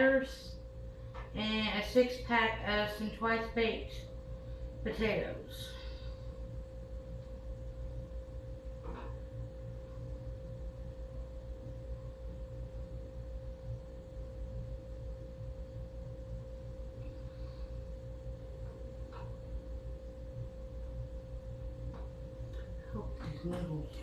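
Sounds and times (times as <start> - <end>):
steady mid-pitched hum: 0.0 - 24.0.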